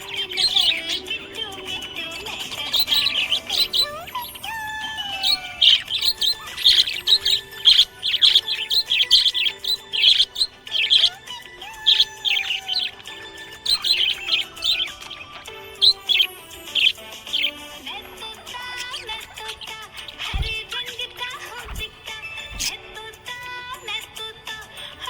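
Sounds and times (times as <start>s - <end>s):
background music: 0.0s - 25.0s
budgies chirping: 0.0s - 25.0s.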